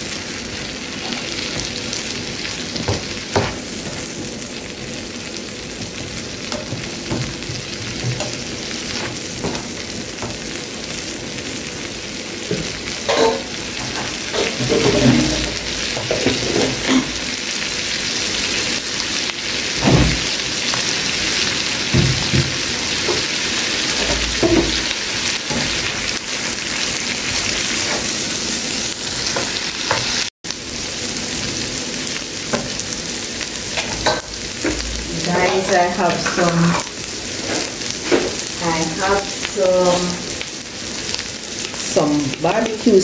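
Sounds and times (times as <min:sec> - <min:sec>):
onions sizzling in butter: 0:00.0 - 0:43.0.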